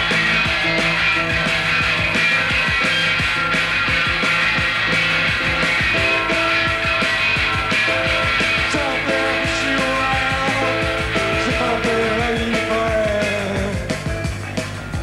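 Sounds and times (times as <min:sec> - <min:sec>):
bass guitar: 0:00.0 - 0:15.0
electric guitars: 0:00.0 - 0:15.0
steady drum beat: 0:00.0 - 0:15.0.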